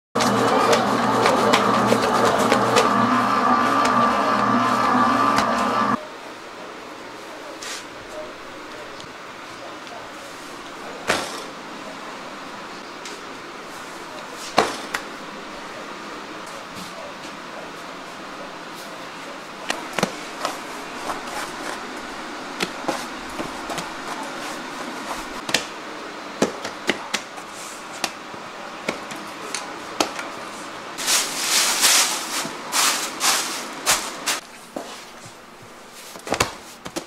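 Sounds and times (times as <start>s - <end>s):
steady background noise: 0.2s - 37.0s.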